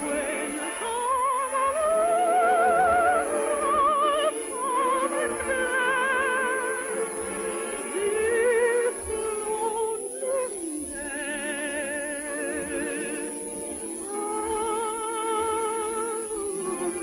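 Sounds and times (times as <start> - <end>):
woman singing with vibrato: 0.0 - 17.0.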